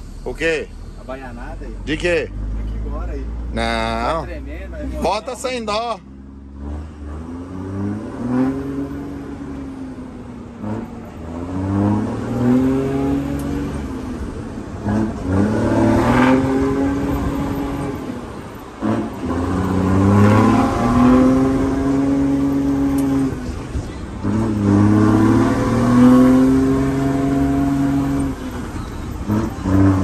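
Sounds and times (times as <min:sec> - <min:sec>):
truck diesel engine accelerating: 0:00.0 - 0:30.0.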